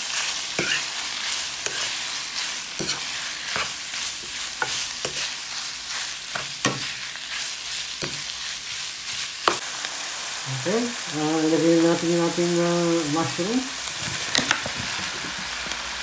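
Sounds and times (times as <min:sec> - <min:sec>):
meat sizzling in a wok: 0:00.0 - 0:16.0.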